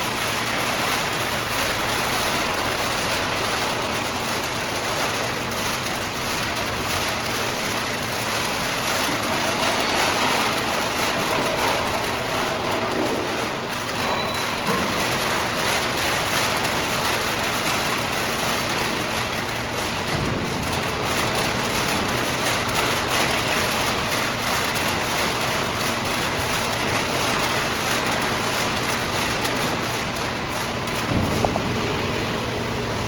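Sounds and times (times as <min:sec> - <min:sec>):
can baler running: 0:00.0 - 0:33.0.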